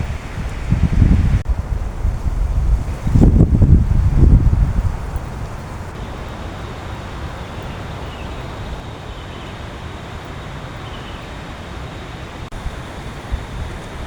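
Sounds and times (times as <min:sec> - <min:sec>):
heavy rain: 0:00.0 - 0:14.0
strong wind: 0:00.0 - 0:14.0
wind rumble on microphone: 0:00.0 - 0:14.0.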